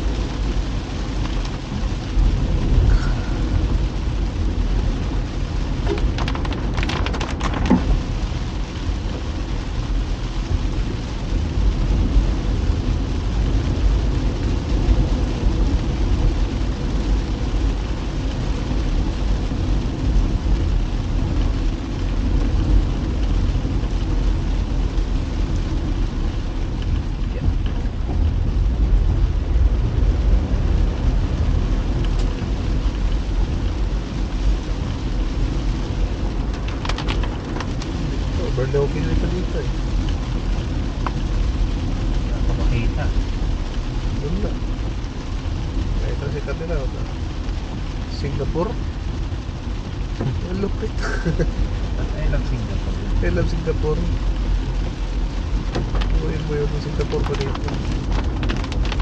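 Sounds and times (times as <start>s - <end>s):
rain and wet road hiss: 0.0s - 59.0s
vehicle low rumble: 0.0s - 59.0s.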